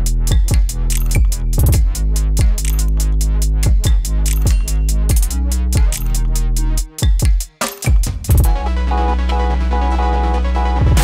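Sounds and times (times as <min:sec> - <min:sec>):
deep sustained bass: 0:00.0 - 0:06.8, 0:08.3 - 0:11.0
electronic music with drum-machine beat: 0:00.0 - 0:11.0.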